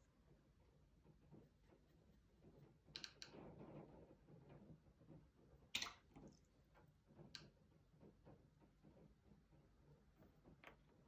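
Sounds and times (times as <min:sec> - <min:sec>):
faint clicks and taps: 0:00.2 - 0:11.0.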